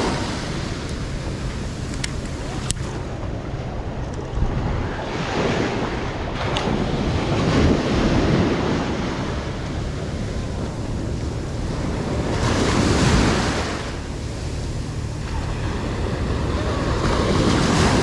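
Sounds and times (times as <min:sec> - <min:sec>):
ocean surf breaking on beach: 0:00.0 - 0:18.0
wind buffeting microphone: 0:00.0 - 0:18.0.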